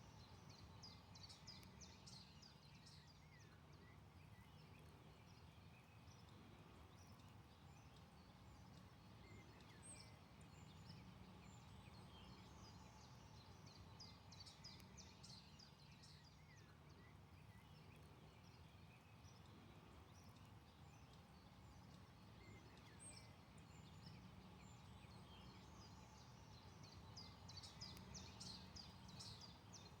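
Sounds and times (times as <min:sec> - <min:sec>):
faint birdsong chirps: 0:00.0 - 0:30.0
low steady hum: 0:00.0 - 0:30.0.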